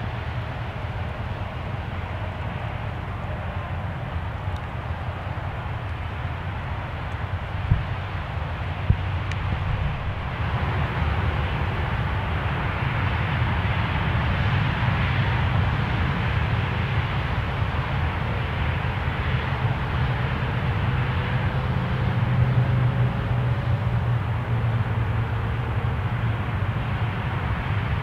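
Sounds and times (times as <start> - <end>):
distant engine rumble: 0.0 - 28.0.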